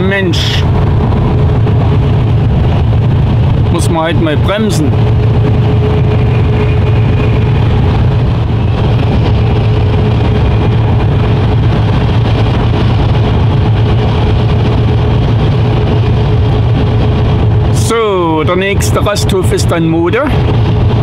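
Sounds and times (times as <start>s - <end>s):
thin steady whine: 0.0s - 21.0s
truck engine drone: 0.0s - 21.0s.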